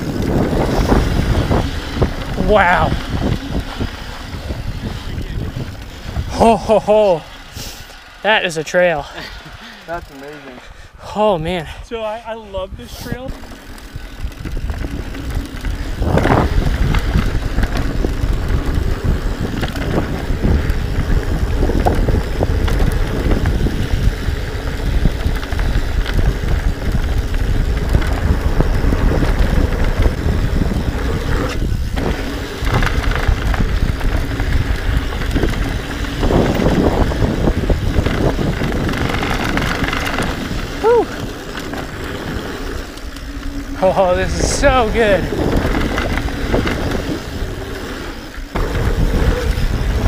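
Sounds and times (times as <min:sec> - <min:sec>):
bike tyres rattling over dirt trail: 0:00.0 - 0:50.0
wind rushing over microphone: 0:00.0 - 0:50.0.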